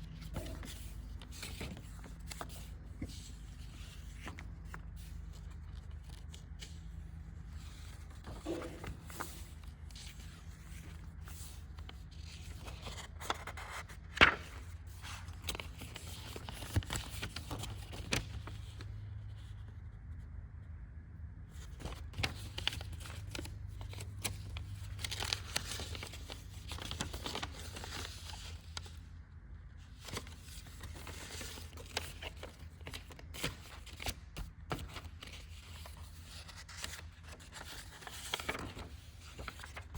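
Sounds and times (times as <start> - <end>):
paper rustling and crinkling: 0.0 - 19.7, 21.5 - 29.1, 29.9 - 39.9.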